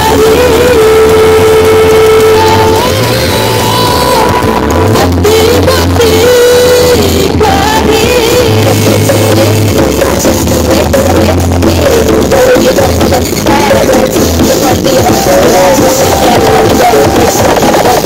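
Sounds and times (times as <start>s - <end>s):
singing over deep bass: 0.0s - 18.0s.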